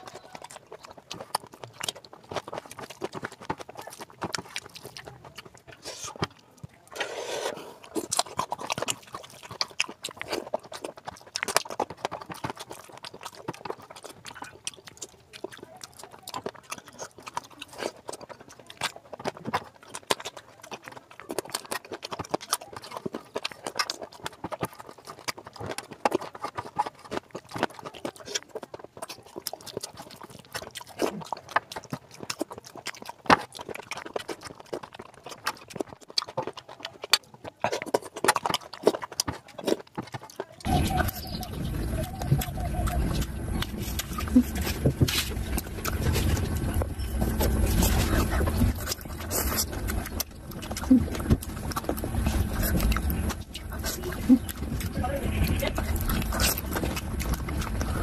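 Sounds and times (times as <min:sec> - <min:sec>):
sticky squelches: 0:00.0 - 0:32.5, 0:35.4 - 0:58.0
wet chewing and lip-smacking: 0:00.0 - 0:58.0.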